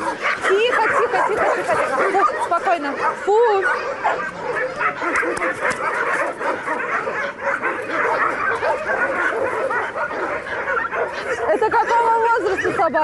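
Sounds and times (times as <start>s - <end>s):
many dogs barking and yelping: 0.0s - 13.0s.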